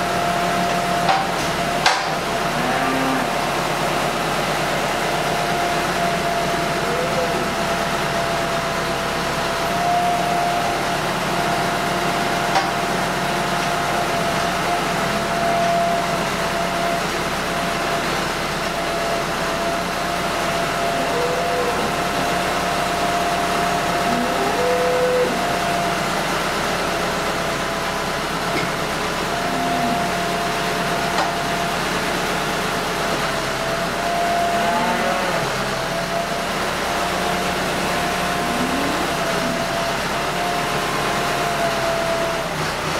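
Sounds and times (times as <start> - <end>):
tractor engine running: 3.3 - 34.5, 35.5 - 42.9.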